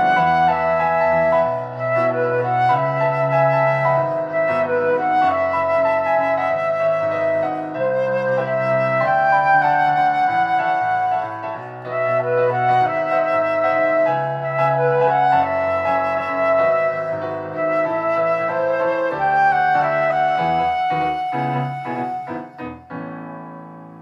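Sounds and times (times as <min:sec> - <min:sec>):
flute melody: 0:00.0 - 0:24.0
instrumental backing track: 0:00.0 - 0:24.0.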